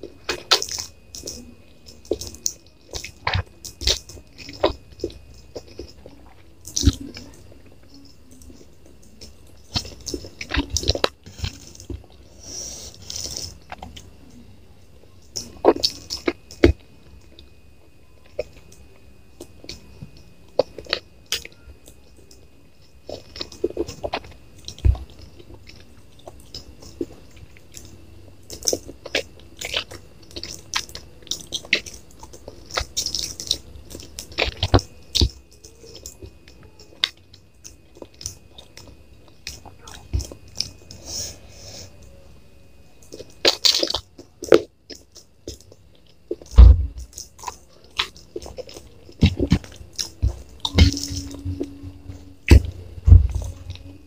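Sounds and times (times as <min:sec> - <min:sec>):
person chewing crunchy food: 0:00.0 - 0:42.2, 0:43.0 - 0:54.0.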